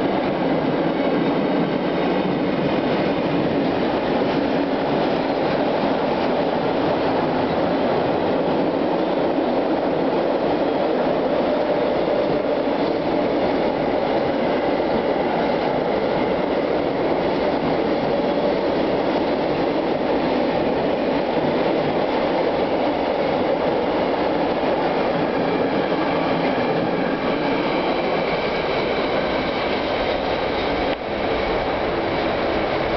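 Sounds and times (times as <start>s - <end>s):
freight train wheels rumbling: 0.0s - 32.9s.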